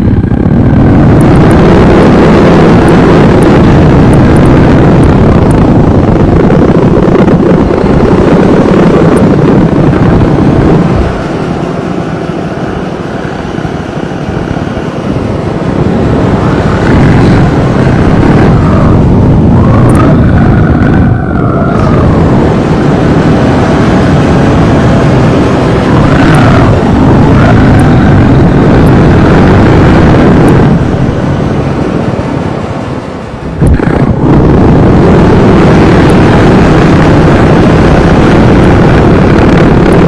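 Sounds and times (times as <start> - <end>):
distorted noise music: 0.0 - 12.8, 14.1 - 32.2, 33.2 - 40.0.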